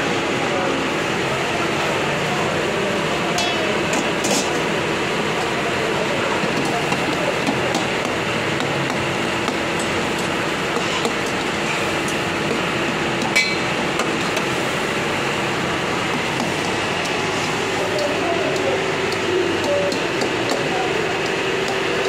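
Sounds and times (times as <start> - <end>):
gas burners rushing: 0.0 - 22.0.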